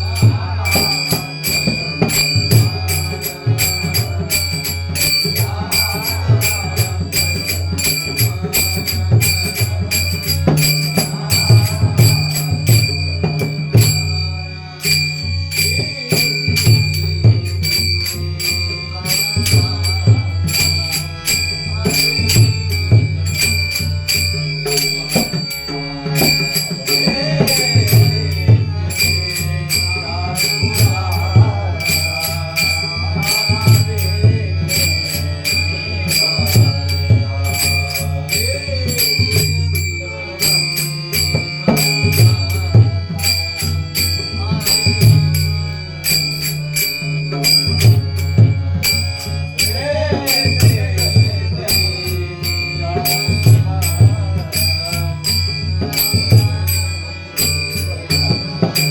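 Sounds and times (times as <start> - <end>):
hand cymbals struck: 0.0 - 58.9.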